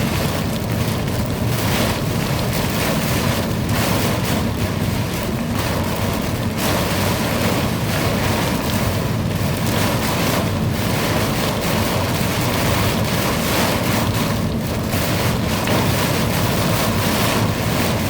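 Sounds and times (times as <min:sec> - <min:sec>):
heavy rain downpour: 0:00.0 - 0:18.0.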